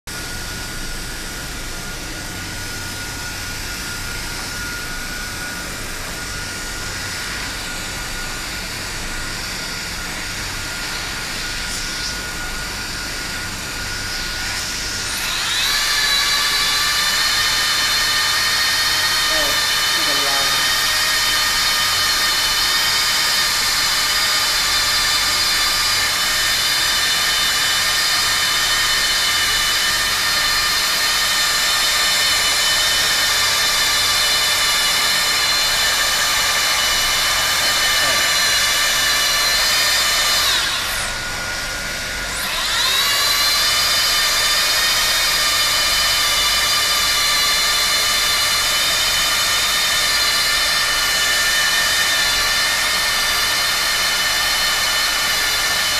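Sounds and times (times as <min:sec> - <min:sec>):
hot-air welder blower whine: 0:00.1 - 0:55.9.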